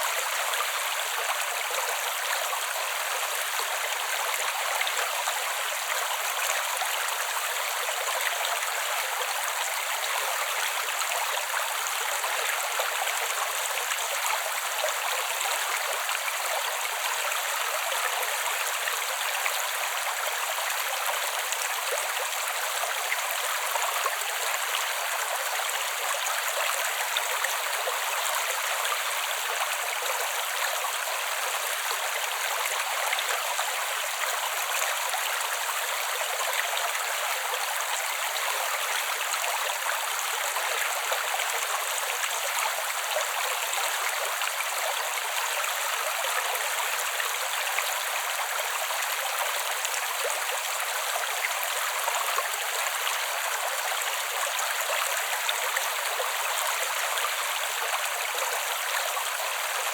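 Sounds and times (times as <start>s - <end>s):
creek water running over rocks: 0.0s - 59.9s.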